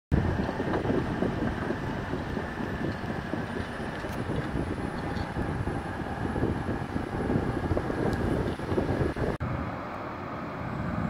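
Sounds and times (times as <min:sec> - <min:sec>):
diesel engines rumbling: 0:00.1 - 0:11.0.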